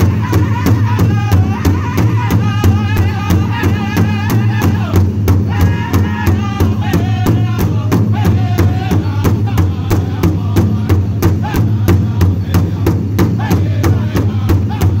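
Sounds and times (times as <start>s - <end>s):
group singing in unison: 0.0s - 15.0s
large hide drum beat: 0.0s - 15.0s.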